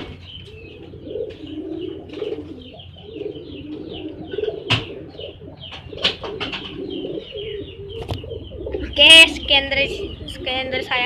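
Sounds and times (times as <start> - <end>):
pigeons cooing: 0.0 - 11.0
small birds chirping: 0.0 - 11.0.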